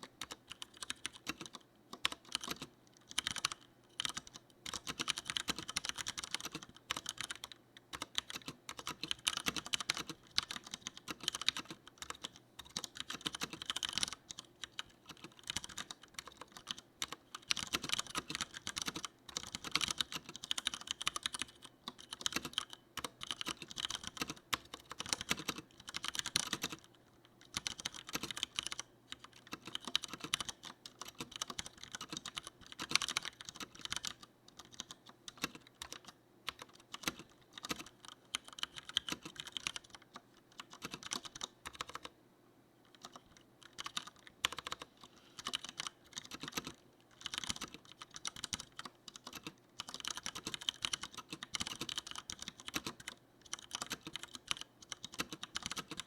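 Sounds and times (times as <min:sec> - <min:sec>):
mechanical keyboard typing: 0:00.0 - 0:42.1, 0:42.9 - 0:56.0.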